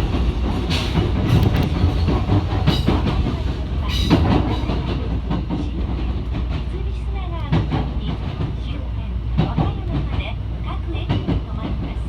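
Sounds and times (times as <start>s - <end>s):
electric train rumbling on rails: 0.0s - 12.0s.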